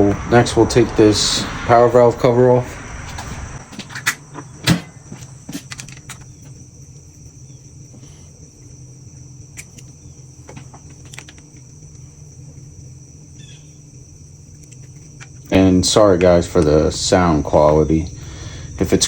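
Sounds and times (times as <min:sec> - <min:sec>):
high-pitched whine: 0:00.0 - 0:19.0
low hum: 0:00.0 - 0:19.0.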